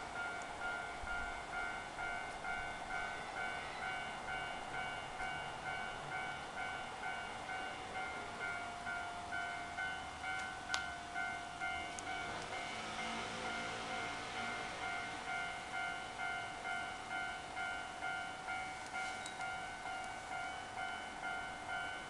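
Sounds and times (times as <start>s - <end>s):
level-crossing warning bell: 0.0s - 22.0s.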